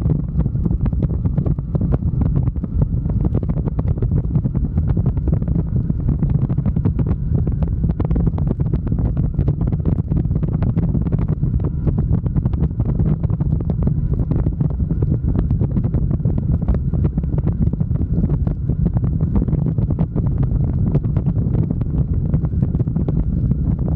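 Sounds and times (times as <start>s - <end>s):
motorcycle engine drone: 0.0s - 23.9s
wind buffeting microphone: 0.0s - 23.9s.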